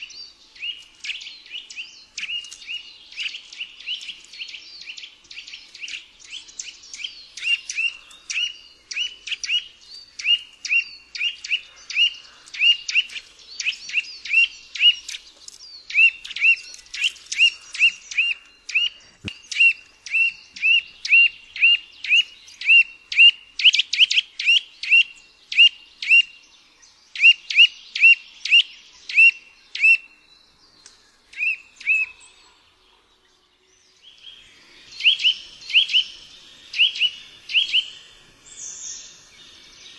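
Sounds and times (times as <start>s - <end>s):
bird whistled calls: 0.0s - 15.2s, 15.9s - 26.4s, 27.2s - 30.2s, 31.3s - 32.5s, 34.3s - 39.2s.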